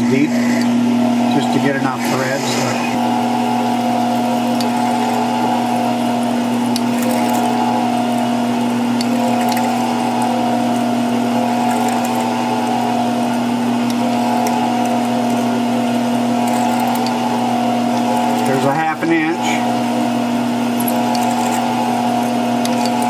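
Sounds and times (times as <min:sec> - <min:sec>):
drill bit boring into metal: 0:00.0 - 0:23.0
metal lathe humming: 0:00.0 - 0:23.0.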